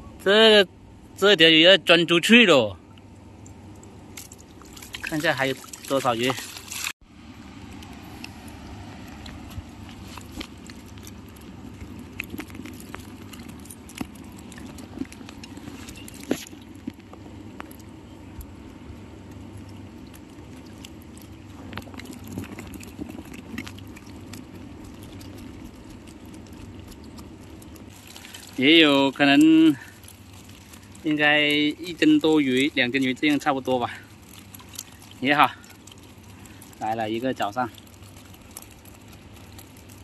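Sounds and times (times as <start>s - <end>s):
fish flapping in a net: 3.3s - 7.0s, 7.6s - 40.0s.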